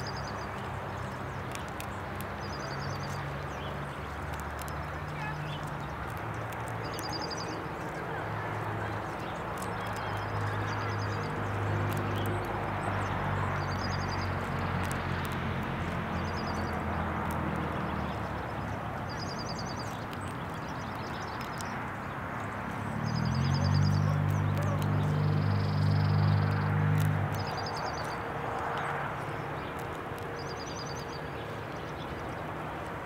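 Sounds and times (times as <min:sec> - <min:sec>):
squirrels cracking seeds: 0:00.0 - 0:33.0.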